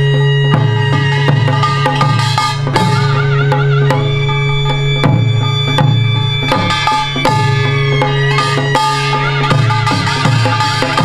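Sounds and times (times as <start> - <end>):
held melody notes: 0.0 - 11.0
sharp strokes on barrel drums: 0.0 - 11.0.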